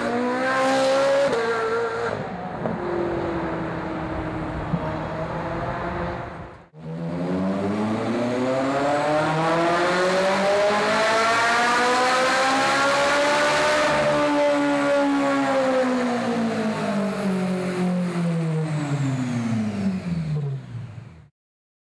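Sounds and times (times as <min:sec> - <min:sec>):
sports car engine revving: 0:00.0 - 0:21.1.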